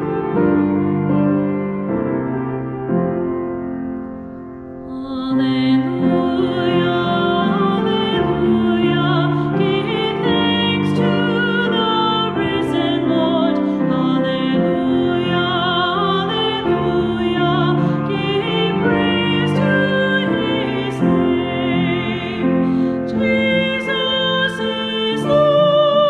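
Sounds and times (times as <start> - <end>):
woman singing a hymn: 4.9 - 26.0.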